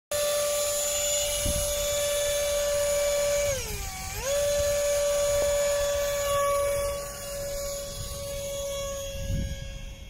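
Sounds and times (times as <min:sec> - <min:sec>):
electric ducted fan whine: 0:00.1 - 0:10.0.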